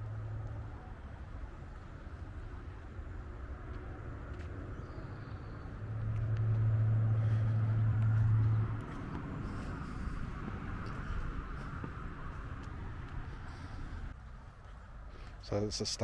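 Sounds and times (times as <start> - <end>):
vehicle passing hum: 0.0 - 15.3
road traffic rumble: 0.0 - 16.0.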